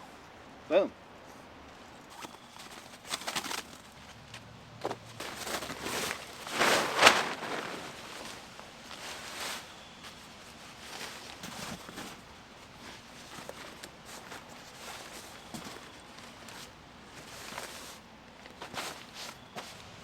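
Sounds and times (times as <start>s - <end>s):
rustling in dry leaves: 2.1s - 20.0s.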